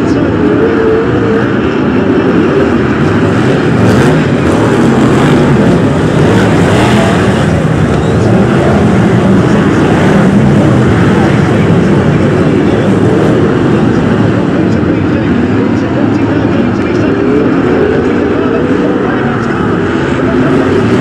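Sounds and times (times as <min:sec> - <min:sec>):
racing car engines roaring: 0:00.0 - 0:21.0.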